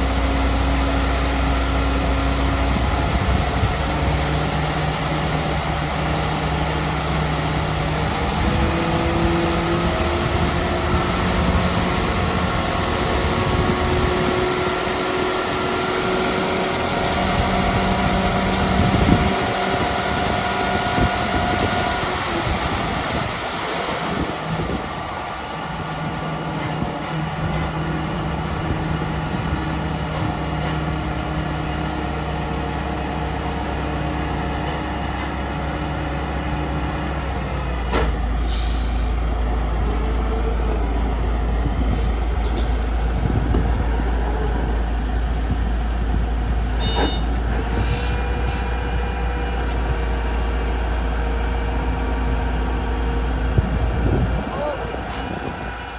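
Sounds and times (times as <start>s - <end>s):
truck engine running: 0.0s - 55.9s.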